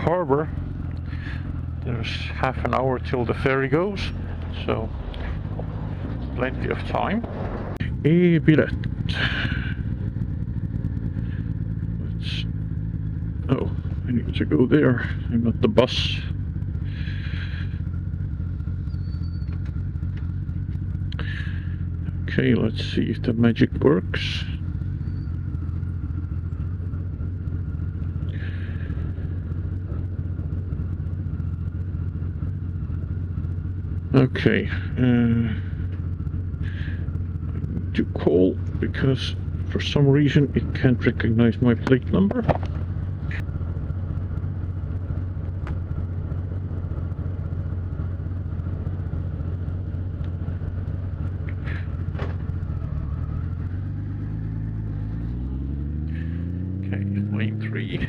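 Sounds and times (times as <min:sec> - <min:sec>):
motorcycle accelerating: 0:00.0 - 0:58.0
motorcycle engine idling: 0:00.0 - 0:58.0.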